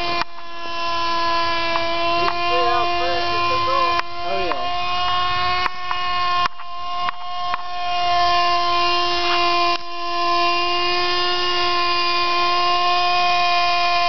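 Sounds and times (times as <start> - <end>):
model helicopter engine whine: 0.0 - 14.0.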